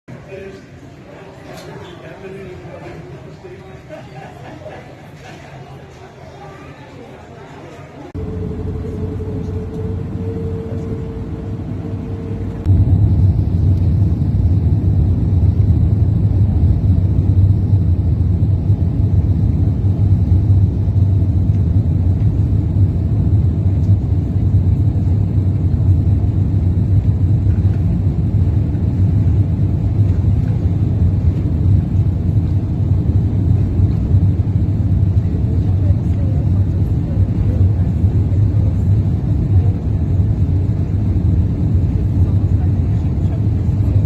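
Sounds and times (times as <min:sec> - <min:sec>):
airliner cabin engine rumble: 0:07.0 - 0:44.0.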